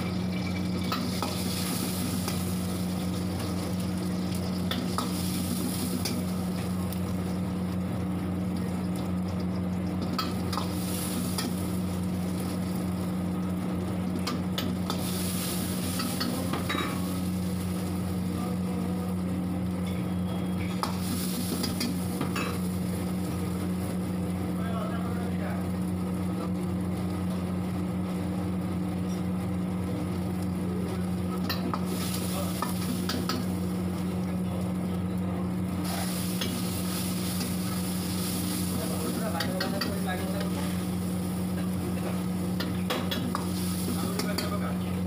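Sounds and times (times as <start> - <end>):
onion sizzling in hot oil: 0.0 - 45.0
steady low hum: 0.0 - 45.0.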